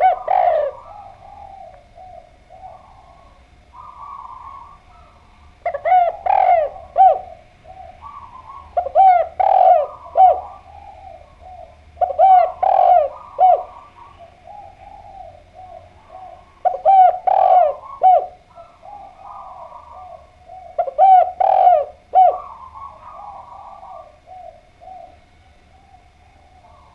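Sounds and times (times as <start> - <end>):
dove cooing: 0.0 - 26.9.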